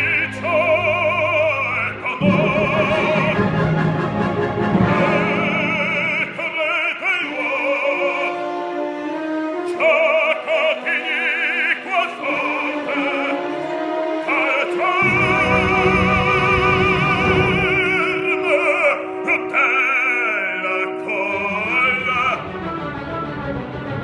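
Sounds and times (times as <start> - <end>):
baritone singing opera: 0.0 - 3.8, 4.8 - 8.6, 9.6 - 22.5
orchestra accompaniment: 0.0 - 24.0.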